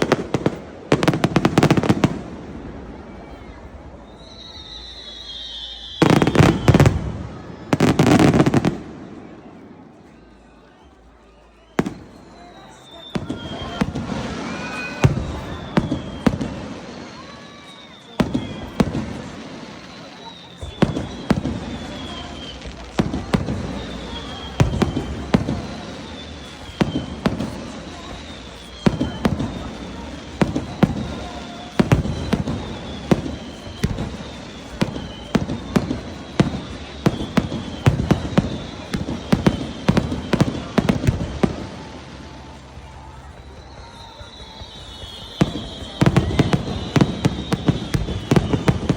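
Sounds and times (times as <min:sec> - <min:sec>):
fireworks bursting: 0:00.0 - 0:48.9.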